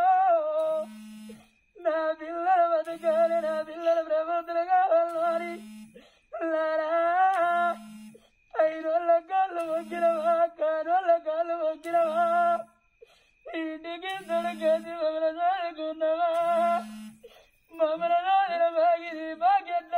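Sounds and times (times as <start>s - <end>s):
high voice singing ballad: 0.0s - 12.8s, 13.4s - 19.9s.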